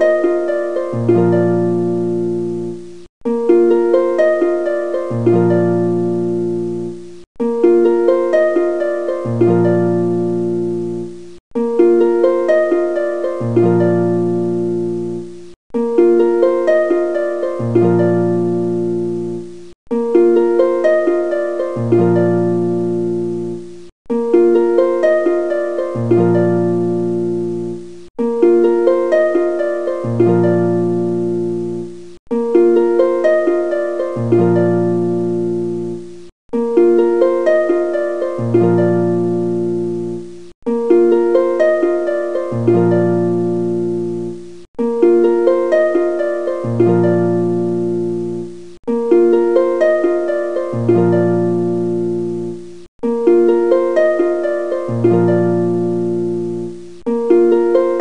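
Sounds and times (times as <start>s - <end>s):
plucked harp-like music: 0.0s - 58.0s.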